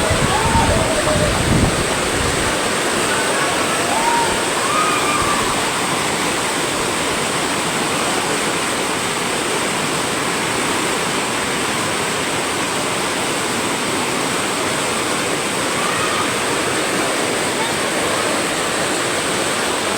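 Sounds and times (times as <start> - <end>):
floodwater rushing: 0.0 - 19.9.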